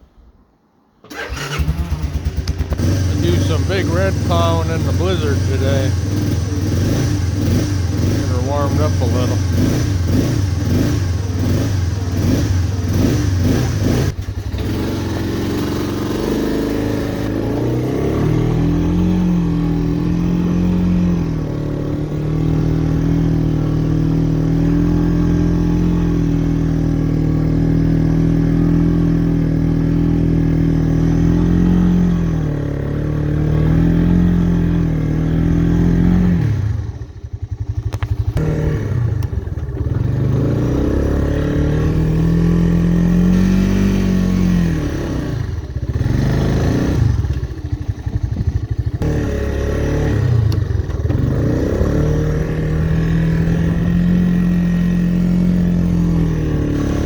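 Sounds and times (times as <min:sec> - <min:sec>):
three-wheeler engine running: 0:01.0 - 0:57.0.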